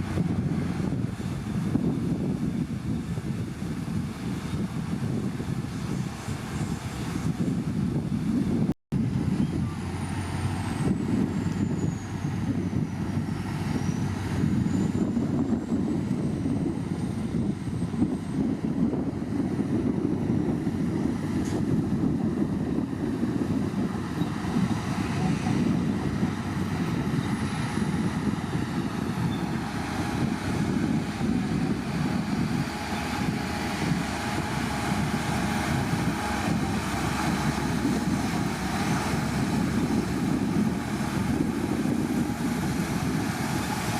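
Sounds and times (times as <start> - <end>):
bulldozer diesel engine rumbling: 0.0 - 43.9.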